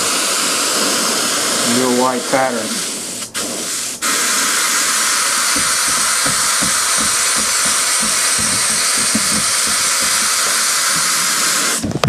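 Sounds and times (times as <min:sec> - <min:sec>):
airbrush hissing: 0:00.0 - 0:11.9.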